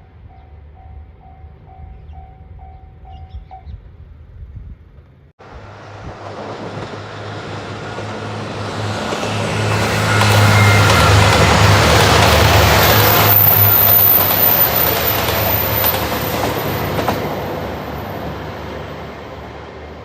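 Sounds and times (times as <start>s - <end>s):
rail noise: 0.0s - 20.0s
train engine hum: 0.0s - 20.0s.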